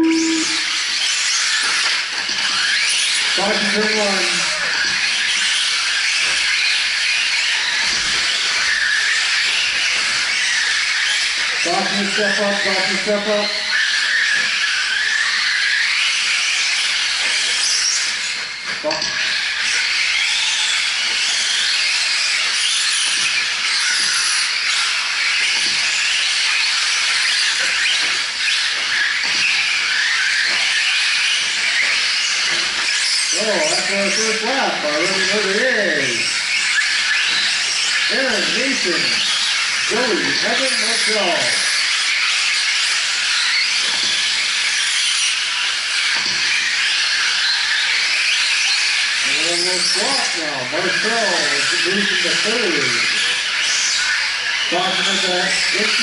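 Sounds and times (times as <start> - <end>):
motor whines: 0.0 - 56.0
rc trucks racing on dirt: 0.0 - 56.0.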